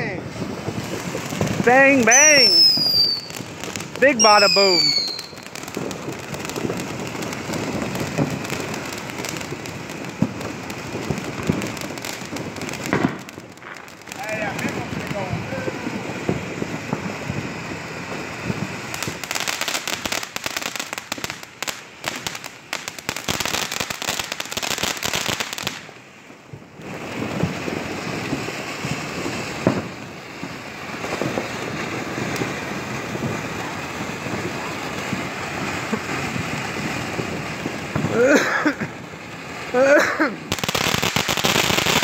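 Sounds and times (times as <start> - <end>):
firework pops: 0.0 - 17.6, 18.2 - 39.0, 40.4 - 42.0
fountain fireworks crackling: 0.0 - 42.0.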